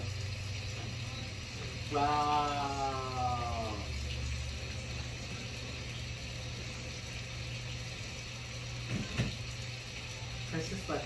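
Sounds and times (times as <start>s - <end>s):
curtain track motor humming: 0.0s - 11.0s.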